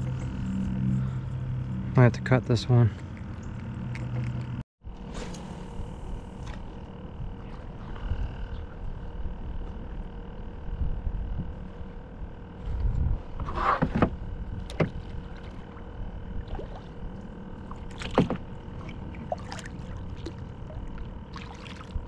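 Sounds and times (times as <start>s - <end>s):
low rumble: 0.0s - 13.4s, 14.1s - 22.0s
steady high hum: 0.0s - 22.0s.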